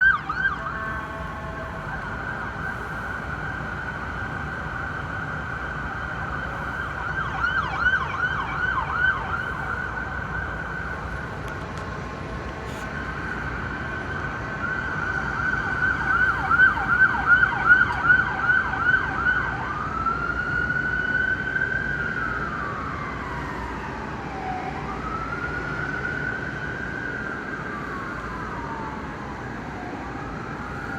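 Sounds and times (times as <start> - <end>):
emergency vehicle siren: 0.0 - 30.9.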